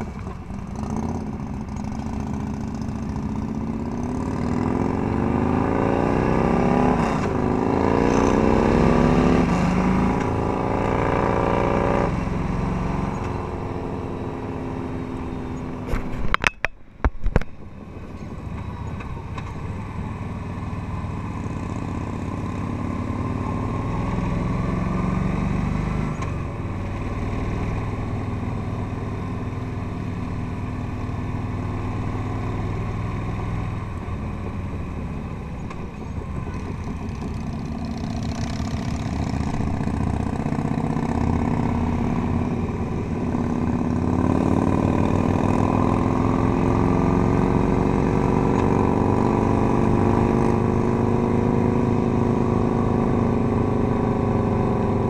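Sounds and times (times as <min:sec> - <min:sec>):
motorcycle engine running: 0:00.0 - 0:25.8, 0:26.4 - 0:55.0.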